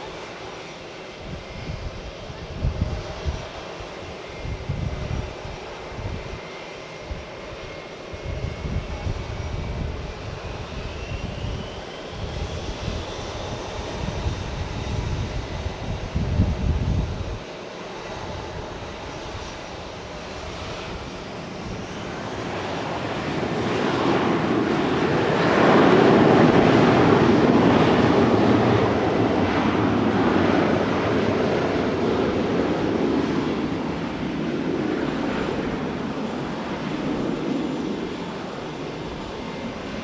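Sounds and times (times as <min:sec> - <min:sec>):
jet engines roaring at takeoff: 0:00.0 - 0:40.0.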